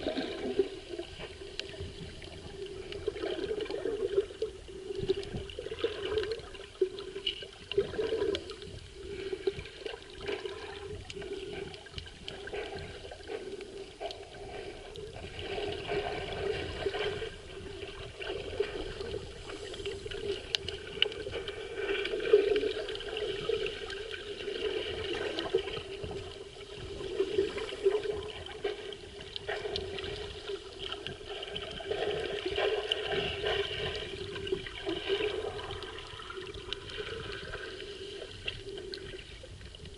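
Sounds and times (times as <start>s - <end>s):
muffled underwater water sloshing: 0.0s - 39.9s.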